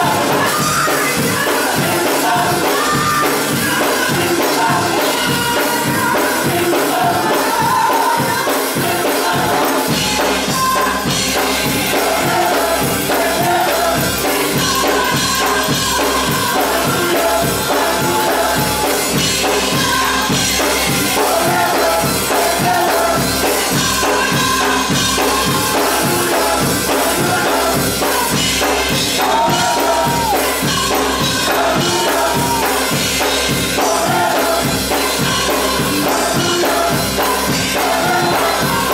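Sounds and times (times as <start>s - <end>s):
drums fast beat: 0.0s - 38.9s
gospel choir singing: 0.0s - 38.9s
live band playing: 0.0s - 38.9s.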